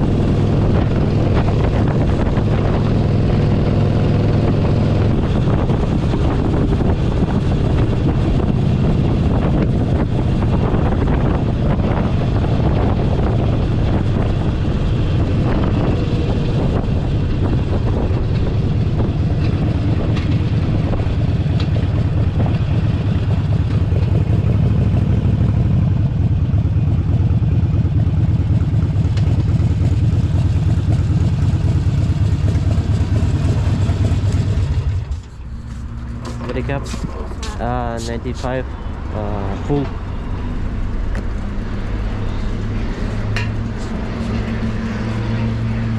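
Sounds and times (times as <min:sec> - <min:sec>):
wind noise on microphone: 0:00.0 - 0:26.2, 0:33.0 - 0:45.9
motorcycle engine running: 0:00.0 - 0:45.9.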